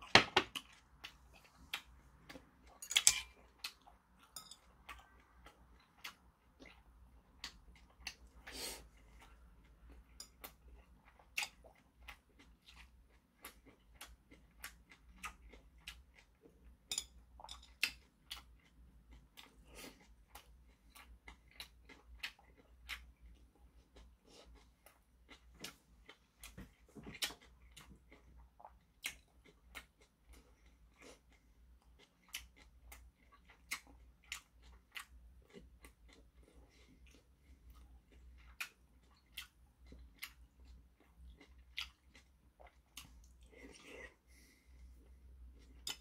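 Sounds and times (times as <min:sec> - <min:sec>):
faint low hum: 0:00.0 - 0:46.0
man chewing and smacking lips: 0:00.0 - 0:46.0.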